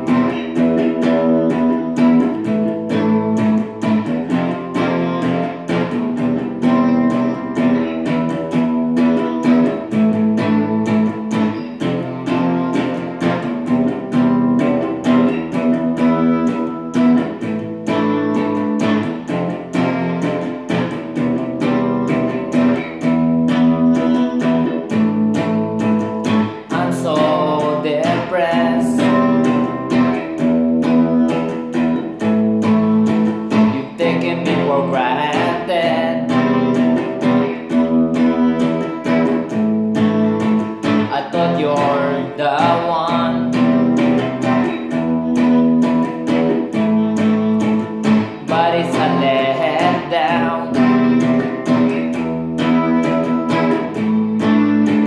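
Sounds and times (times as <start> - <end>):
electric guitar through an amp: 0.0 - 55.0.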